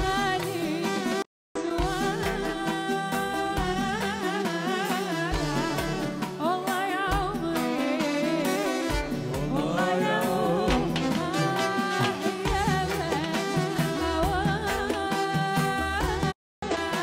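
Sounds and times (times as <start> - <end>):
band with drum beats: 0.0 - 17.0
woman singing: 0.0 - 17.0.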